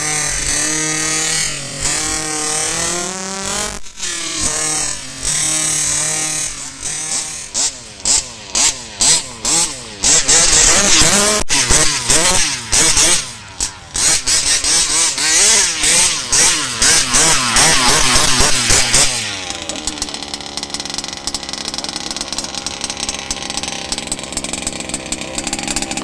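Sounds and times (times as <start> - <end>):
small two-stroke engine revving: 0.0 - 26.0.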